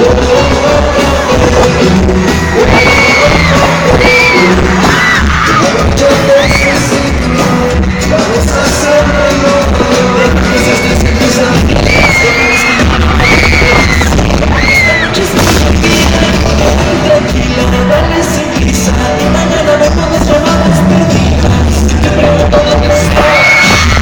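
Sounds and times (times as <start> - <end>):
amplified band music with heavy beat: 0.0 - 24.0
person singing: 0.0 - 24.0.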